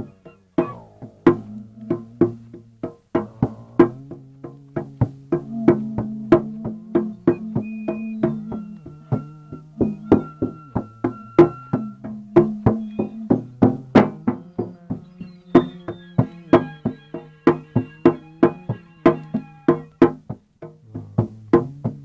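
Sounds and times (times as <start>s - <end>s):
rhythmic knocking strikes: 0.0s - 22.0s
ringing low notes: 0.0s - 22.0s.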